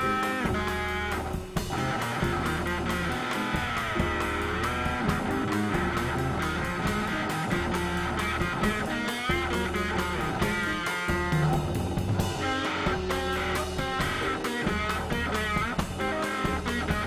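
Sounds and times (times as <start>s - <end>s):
bass line: 0.0s - 17.0s
electric guitar with bent notes: 0.0s - 17.0s
steady drum beat: 0.0s - 17.0s.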